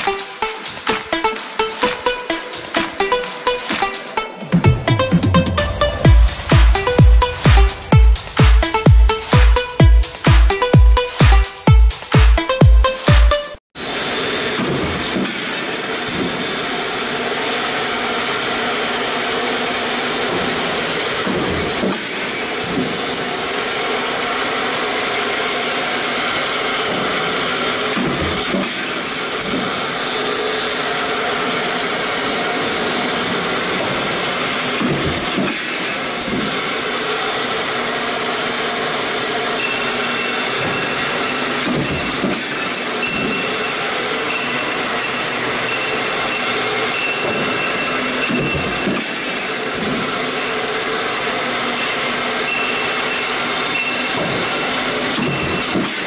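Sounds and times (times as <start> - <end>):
stamping press machine noise: 6.0 - 56.0.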